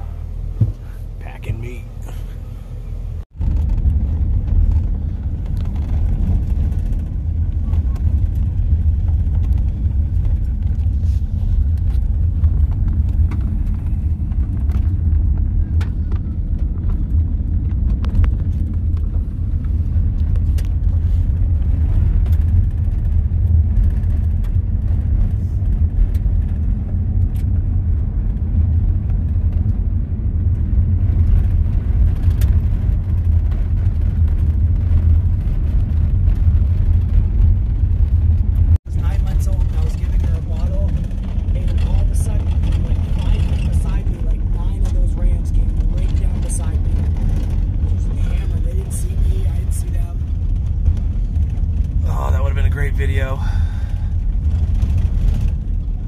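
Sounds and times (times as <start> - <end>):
vehicle road rumble: 0.0 - 56.0.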